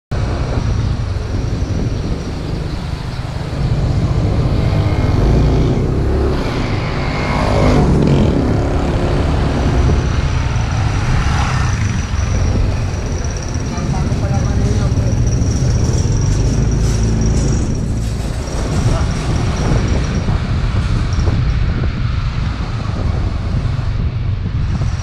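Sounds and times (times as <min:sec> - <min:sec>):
wind buffeting microphone: 0:00.1 - 0:25.0.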